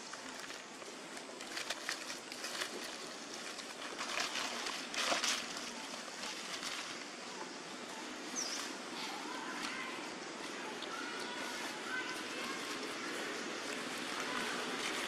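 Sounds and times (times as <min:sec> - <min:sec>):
dry leaves rustling under steps: 0:00.0 - 0:15.0.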